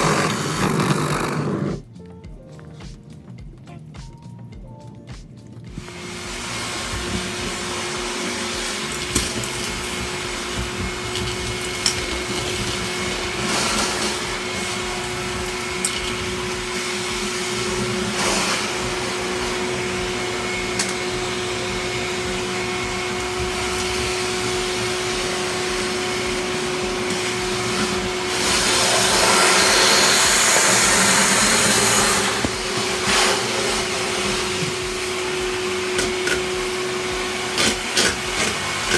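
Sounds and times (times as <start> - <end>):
vacuum cleaner running: 0.0 - 1.9, 5.7 - 38.9.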